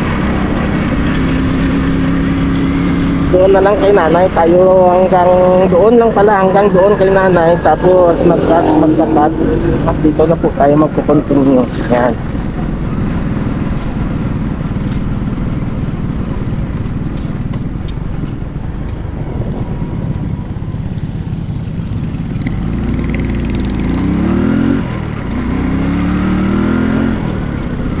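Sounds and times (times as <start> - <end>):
motorcycle engine revving: 0.0 - 18.8, 19.5 - 28.0
riding noise: 0.0 - 28.0.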